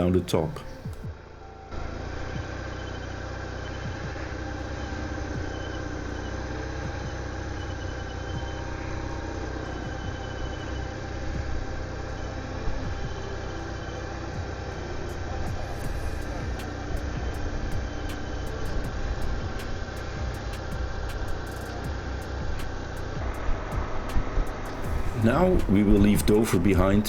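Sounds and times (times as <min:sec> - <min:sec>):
motorcycle engine running: 0:00.3 - 0:27.0.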